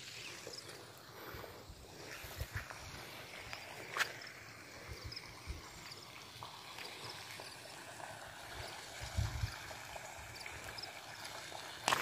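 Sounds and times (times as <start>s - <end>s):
outdoor rushing hiss: 0.0s - 10.9s.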